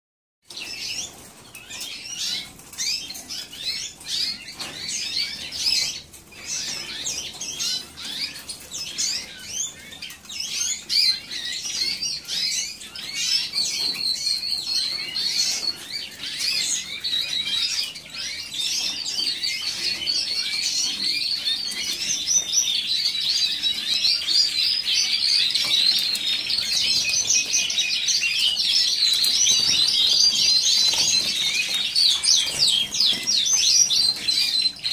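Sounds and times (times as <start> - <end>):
canaries chirping and trilling: 0.4 - 34.9.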